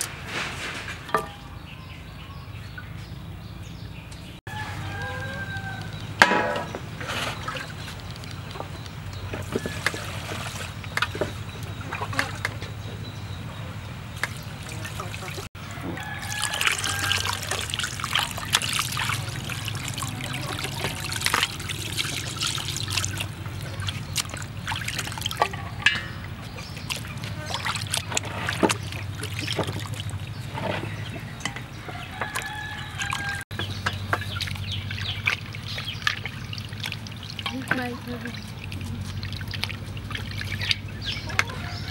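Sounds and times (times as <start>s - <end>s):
water splashing in metal basin: 0.0s - 3.0s, 4.4s - 41.9s
chickens clucking: 4.5s - 41.9s.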